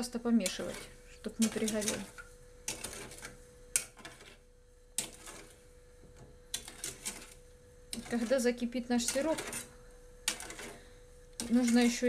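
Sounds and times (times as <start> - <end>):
metal spoon scraping saucepan: 0.0 - 4.4, 5.0 - 5.6, 6.5 - 12.0.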